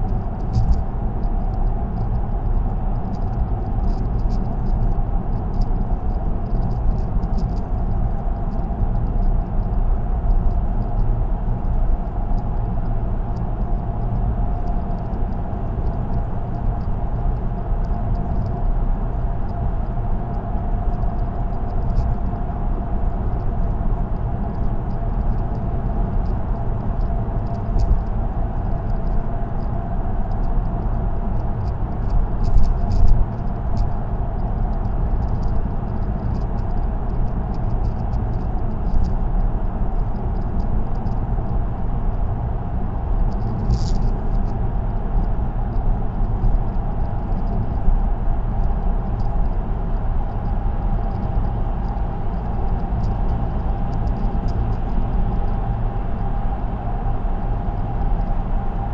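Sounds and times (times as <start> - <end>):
light ticks and rattles: 0.0 - 56.9
car road noise rumble: 0.0 - 58.9.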